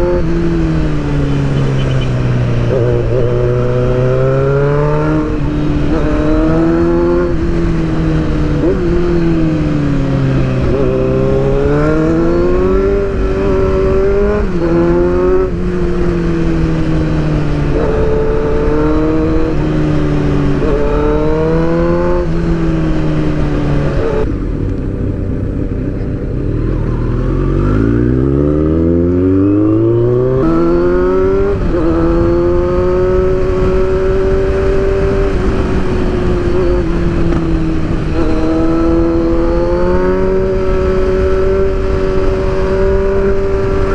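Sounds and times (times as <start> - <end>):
wind rushing: 0.0 - 25.7, 27.0 - 43.9
motorcycle engine revving: 0.0 - 43.9.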